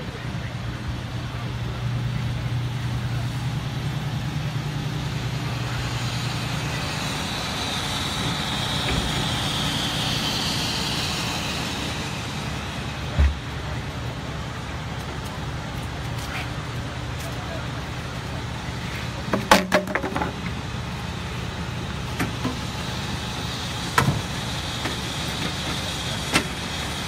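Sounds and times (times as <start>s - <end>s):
trucks idling: 0.0s - 27.0s.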